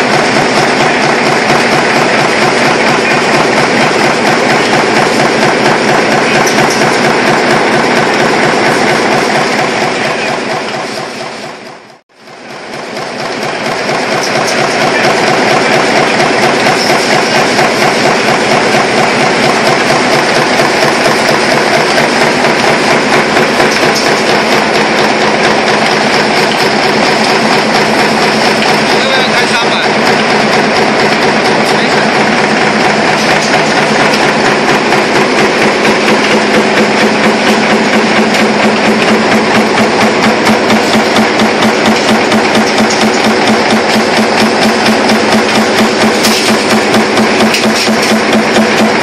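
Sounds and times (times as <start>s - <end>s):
stamping press clattering: 0.0s - 11.0s, 12.9s - 49.0s.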